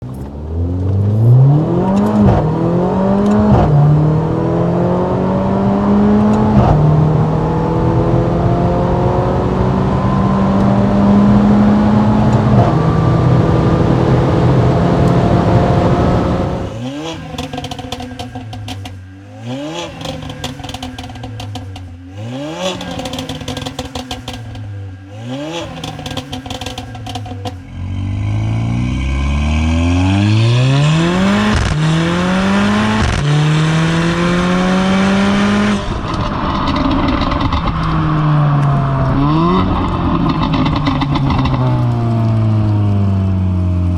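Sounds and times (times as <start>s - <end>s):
car engine accelerating: 0.0s - 43.9s
exhaust crackling: 0.0s - 43.9s.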